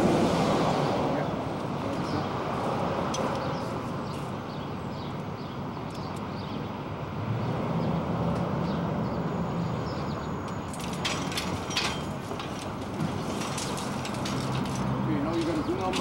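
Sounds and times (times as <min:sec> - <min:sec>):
rumbling street traffic: 0:00.0 - 0:16.0.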